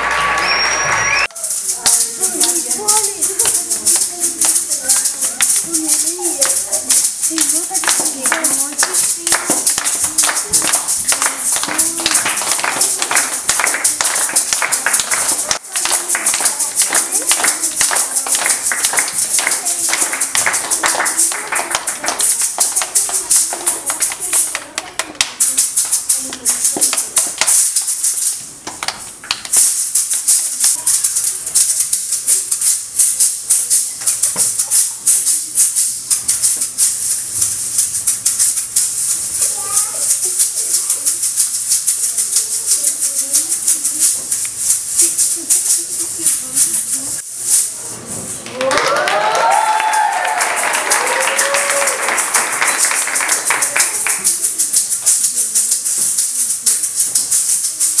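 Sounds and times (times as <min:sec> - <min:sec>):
maracas shaking: 0:00.0 - 0:58.0
quick percussion strokes: 0:00.0 - 0:58.0.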